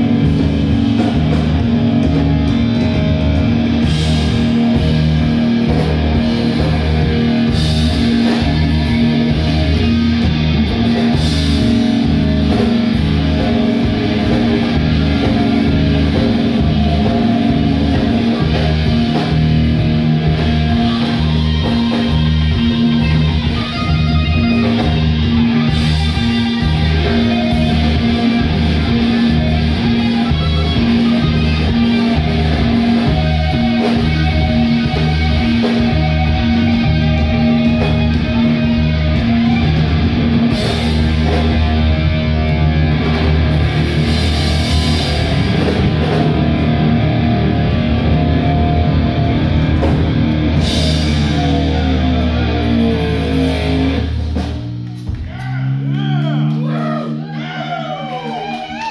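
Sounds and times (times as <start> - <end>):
bass guitar: 0.0 - 58.9
distorted electric guitar: 0.0 - 58.9
drums: 0.0 - 58.9.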